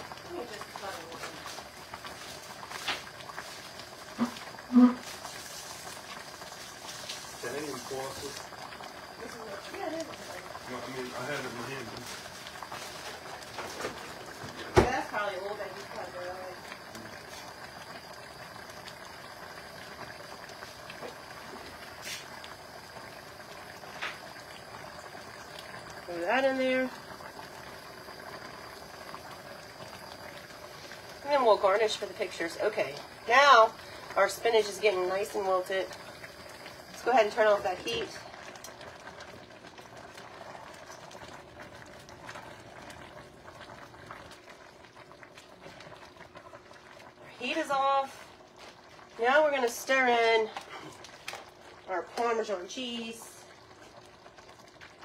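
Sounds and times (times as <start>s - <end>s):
soup bubbling in a pot: 0.0s - 55.0s.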